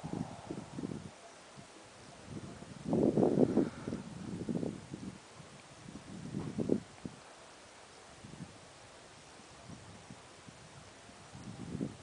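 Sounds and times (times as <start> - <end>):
wind buffeting microphone: 0.0 - 7.3, 8.1 - 12.0
wind rushing through trees: 0.0 - 12.0.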